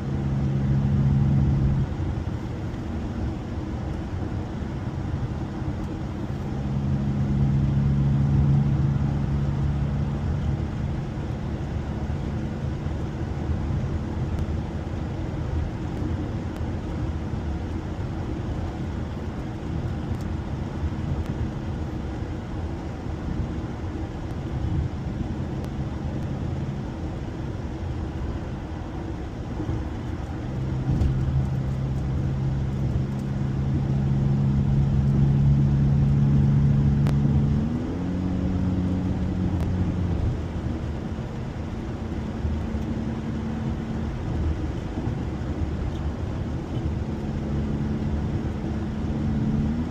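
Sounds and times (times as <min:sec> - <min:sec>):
car engine drone: 0:00.0 - 0:49.9
tyre and road rumble: 0:07.5 - 0:49.9.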